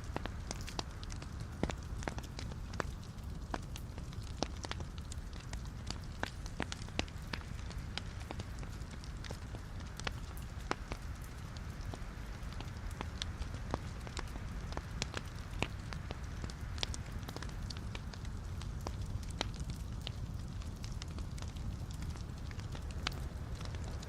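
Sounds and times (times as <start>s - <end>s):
fire crackling and popping: 0.0s - 24.0s
fire flames rumbling: 0.0s - 24.0s.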